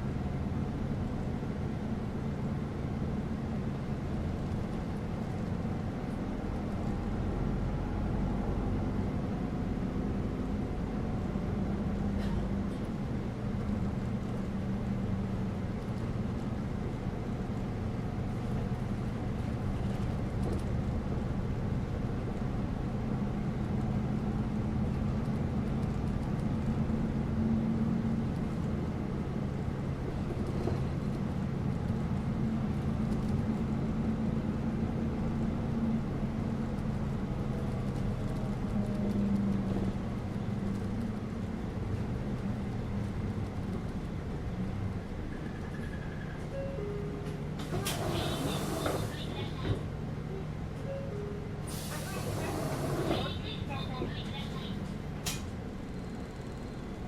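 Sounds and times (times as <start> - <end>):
bus engine hum: 0.0 - 57.0
road noise: 0.0 - 57.0.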